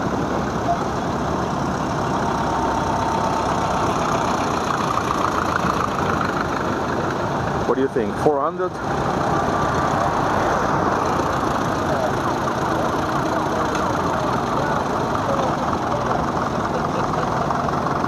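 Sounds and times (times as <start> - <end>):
tractor engines running: 0.0 - 18.0.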